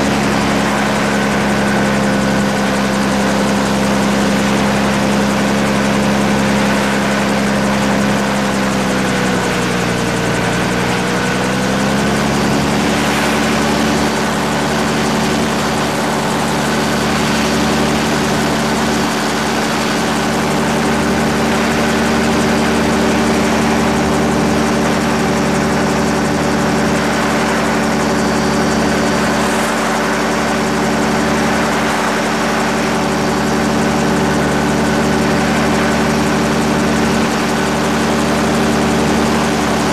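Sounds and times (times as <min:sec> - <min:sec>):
gyrocopter engine and propeller: 0:00.0 - 0:39.9.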